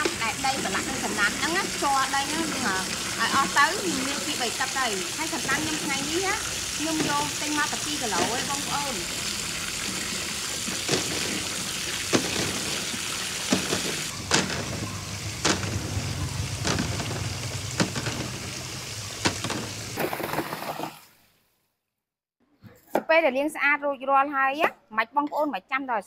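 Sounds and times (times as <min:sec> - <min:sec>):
water pouring and splashing: 0:00.0 - 0:21.3.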